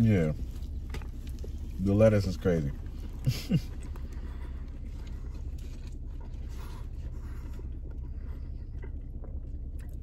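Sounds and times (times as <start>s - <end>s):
chewing crispy food: 0.0s - 10.0s
low hum inside car: 0.0s - 10.0s.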